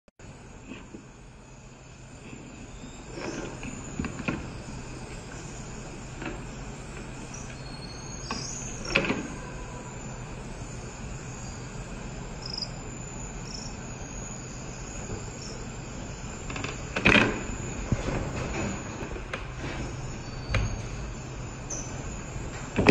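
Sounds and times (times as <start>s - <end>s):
steady background hum: 0.2s - 22.9s.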